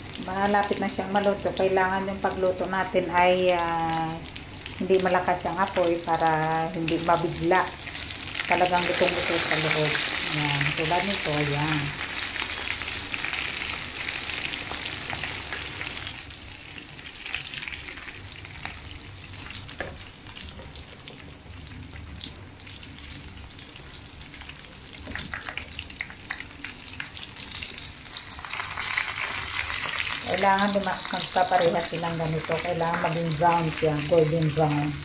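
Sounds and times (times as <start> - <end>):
fish frying in oil: 0.0 - 35.0.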